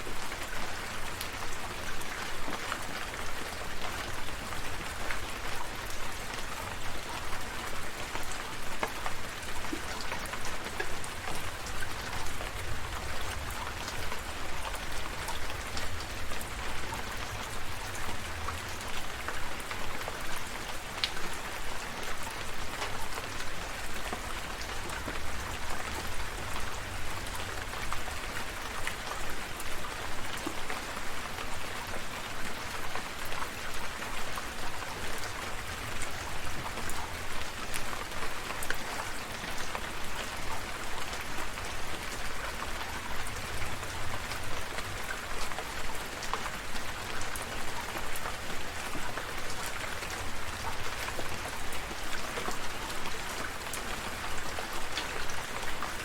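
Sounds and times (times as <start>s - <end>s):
raindrops ticking close by: 0.0s - 56.0s
steady rainfall: 0.0s - 56.0s.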